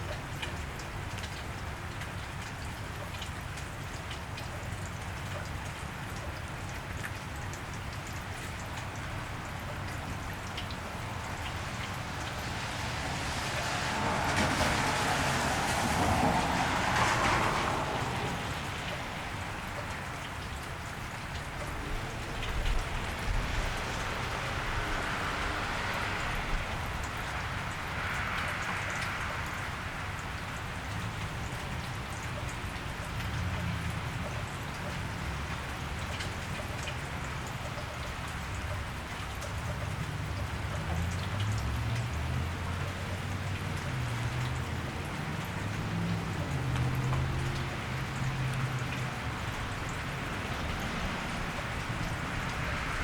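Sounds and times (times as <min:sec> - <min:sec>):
rain falling on wet street: 0:00.0 - 0:53.0.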